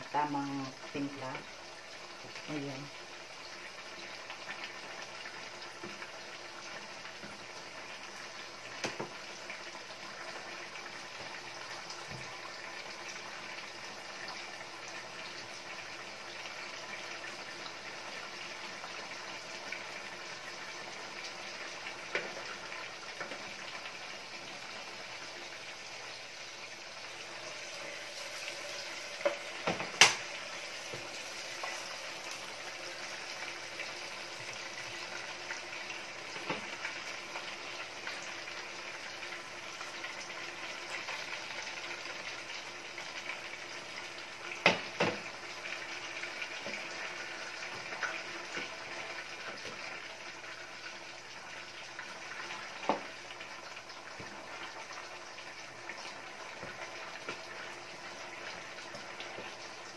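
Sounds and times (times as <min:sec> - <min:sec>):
stew bubbling in a pan: 0:00.0 - 0:59.9.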